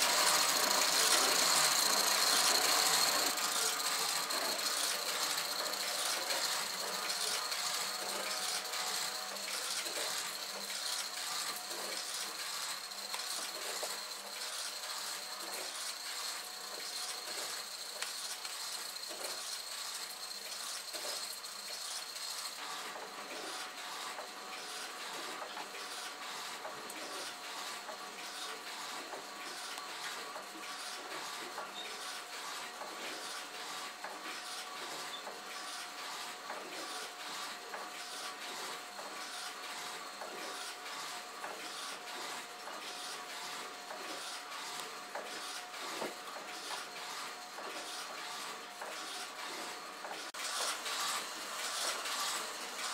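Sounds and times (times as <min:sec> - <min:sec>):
gears clicking and ratcheting: 0:00.0 - 0:52.9.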